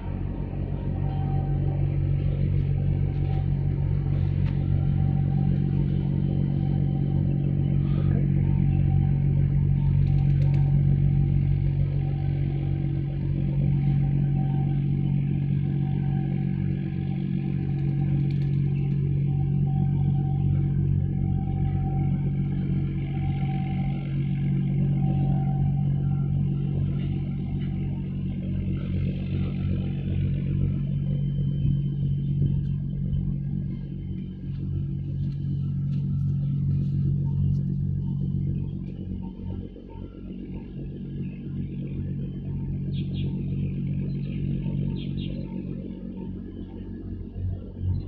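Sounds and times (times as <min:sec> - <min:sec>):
low engine drone: 0:00.0 - 0:48.0.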